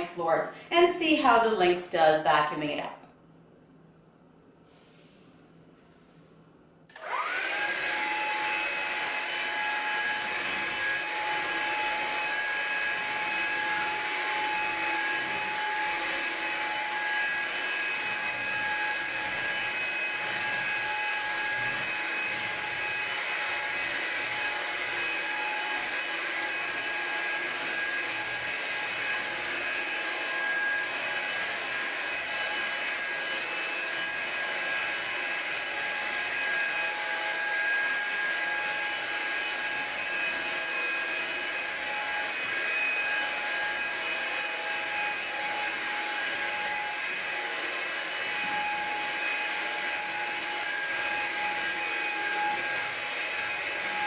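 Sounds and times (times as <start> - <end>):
stick vacuum whining: 6.9 - 54.0.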